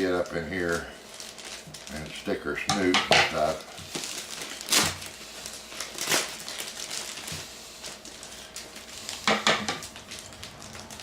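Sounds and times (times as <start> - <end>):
packaging crinkling: 0.0 - 11.0
packaging rustle: 0.0 - 11.0.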